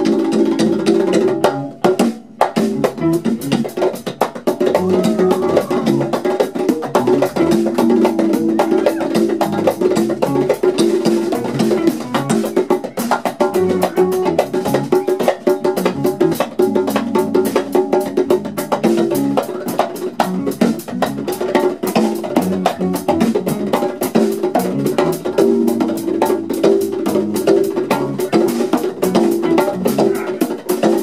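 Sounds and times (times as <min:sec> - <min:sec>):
funk band playing: 0:00.0 - 0:31.0
rapid electronic drum pad percussion: 0:00.0 - 0:31.0.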